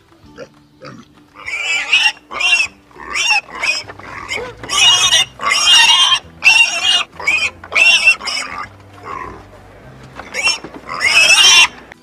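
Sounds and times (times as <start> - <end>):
pigs squealing: 0.4 - 9.5, 10.2 - 12.0.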